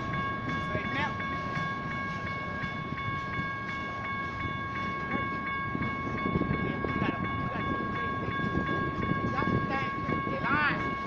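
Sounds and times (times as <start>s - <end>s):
electronic crossing bells ringing: 0.0s - 11.0s.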